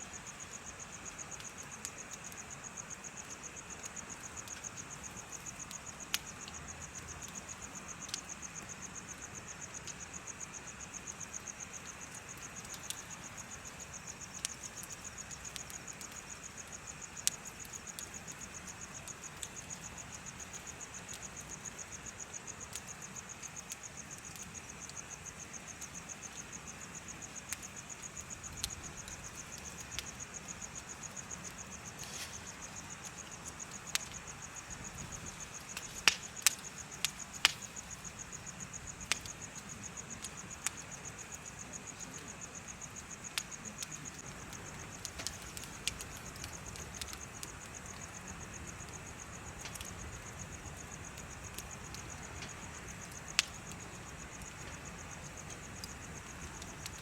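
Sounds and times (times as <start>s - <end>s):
crickets chirping: 0.0s - 57.0s
bonfire crackling and popping: 0.1s - 57.0s.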